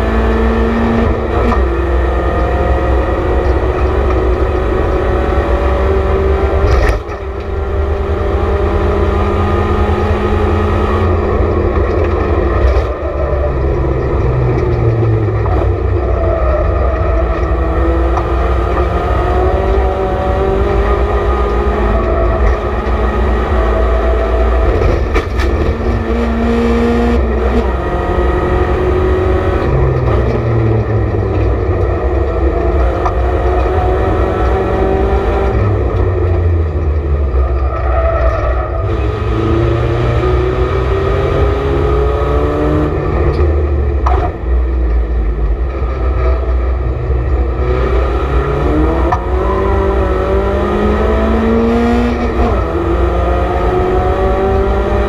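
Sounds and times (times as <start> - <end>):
race car engine revving: 0.0 - 55.0
road and tyre rumble: 0.0 - 55.0.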